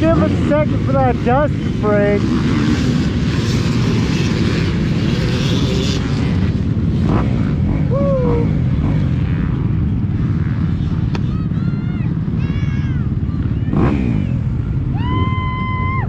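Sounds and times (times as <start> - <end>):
dirt bike engine rumble: 0.0 - 16.0.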